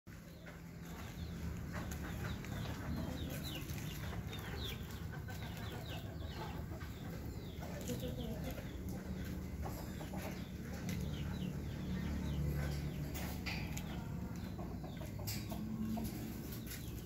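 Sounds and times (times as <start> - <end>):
birds chirping: 0.1 - 17.0
steady low rumble: 0.1 - 17.0.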